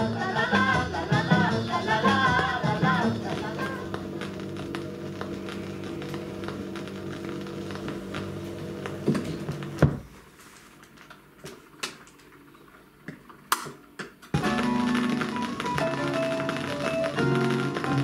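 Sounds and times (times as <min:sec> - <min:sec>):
record changer hum: 0:00.0 - 0:10.2, 0:10.8 - 0:18.0.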